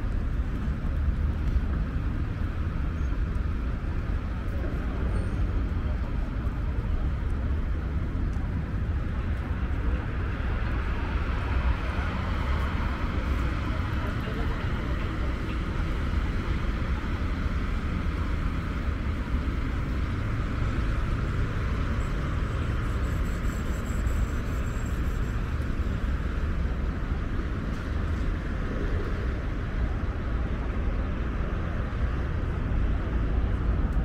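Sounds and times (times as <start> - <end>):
city traffic hum: 0.0 - 34.0.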